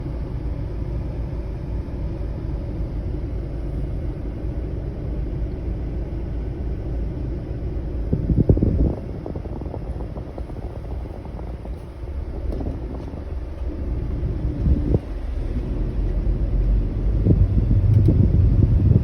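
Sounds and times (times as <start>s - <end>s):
air conditioner airflow rumble: 0.0s - 19.0s.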